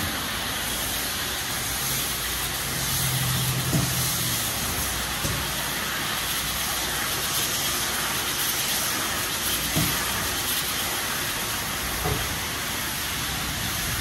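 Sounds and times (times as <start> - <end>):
water spraying hiss: 0.0 - 14.0.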